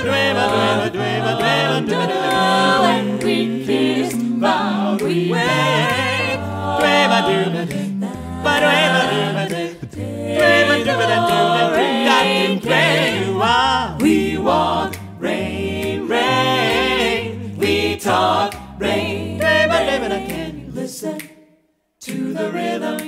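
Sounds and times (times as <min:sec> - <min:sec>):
a cappella group singing: 0:00.0 - 0:23.0.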